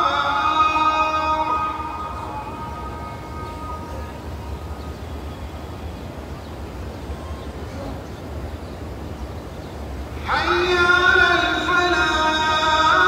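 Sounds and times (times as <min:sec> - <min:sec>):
murmur of large crowd: 0:00.0 - 0:13.0.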